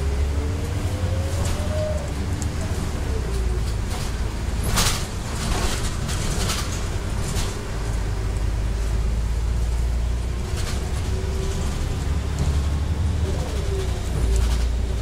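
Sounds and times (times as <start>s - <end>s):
bus engine drone: 0.0s - 15.0s
bus rattles and clicks: 0.0s - 15.0s.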